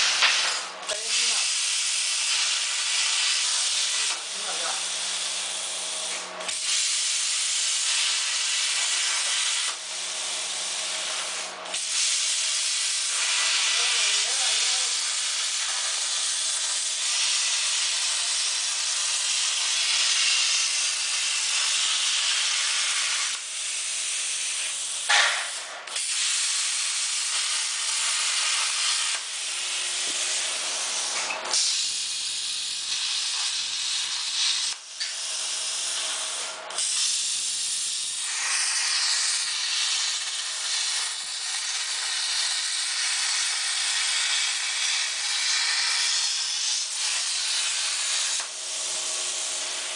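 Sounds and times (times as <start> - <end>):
plasma cutter arc hissing: 0.0 - 49.9.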